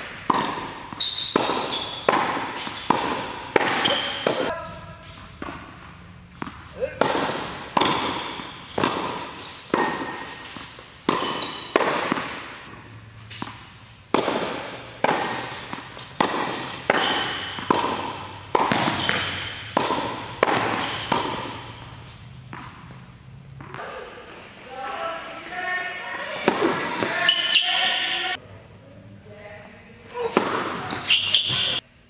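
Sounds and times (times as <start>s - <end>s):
tennis ball hit and bouncing: 0.0s - 24.4s, 26.3s - 28.4s, 30.2s - 31.8s.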